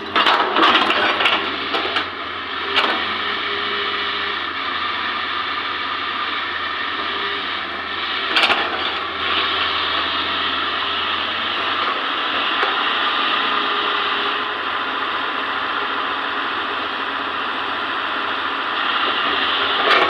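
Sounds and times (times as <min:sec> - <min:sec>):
excavator engine and hydraulics: 0:00.0 - 0:20.0.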